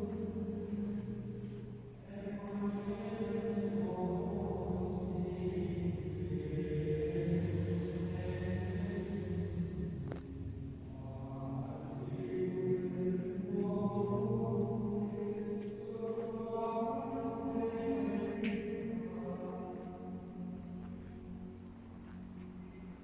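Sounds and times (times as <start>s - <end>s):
slow chant-like music: 0.0s - 23.0s.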